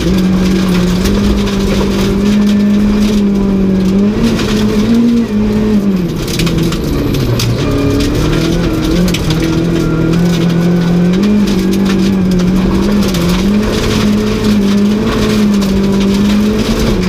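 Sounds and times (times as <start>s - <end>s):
gravel rattling against underbody: 0.0s - 17.0s
rally car engine at high revs: 0.0s - 17.0s.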